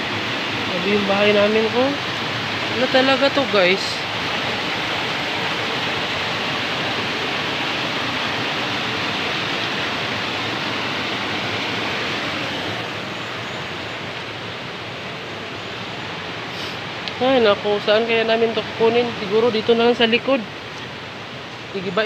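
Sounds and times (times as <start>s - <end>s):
running water: 0.0s - 22.0s.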